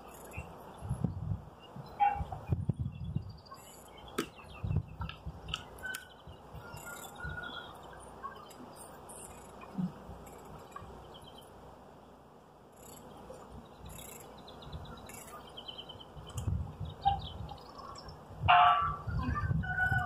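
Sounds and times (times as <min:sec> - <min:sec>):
small birds chirping: 0:00.0 - 0:18.3.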